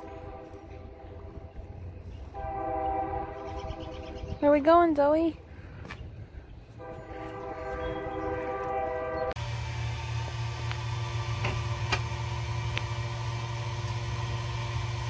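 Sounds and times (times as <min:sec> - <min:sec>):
horn sounding a held chord: 0:00.0 - 0:04.2, 0:06.8 - 0:15.0.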